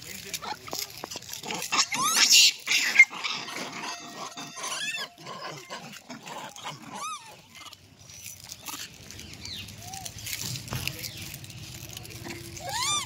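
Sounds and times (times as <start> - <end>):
crackling and rustling snacks: 0.0 - 13.0
monkey squeaky calls: 0.4 - 10.6, 11.2 - 13.0.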